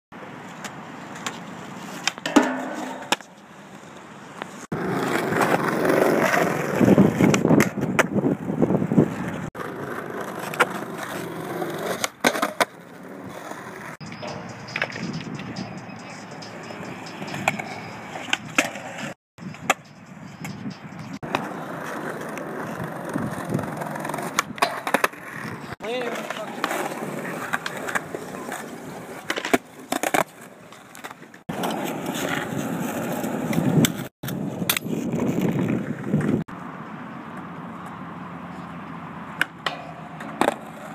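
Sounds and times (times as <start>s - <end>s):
skateboard wheels rolling on concrete: 0.1s - 40.9s
skateboard clacking on ground: 0.4s - 8.2s, 9.0s - 36.4s, 39.4s - 40.9s.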